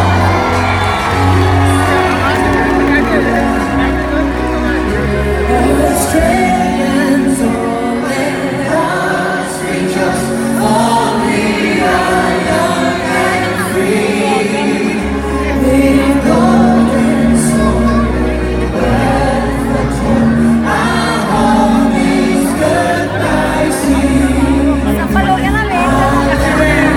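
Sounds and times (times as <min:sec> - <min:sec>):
choral singing with music: 0:00.0 - 0:26.9.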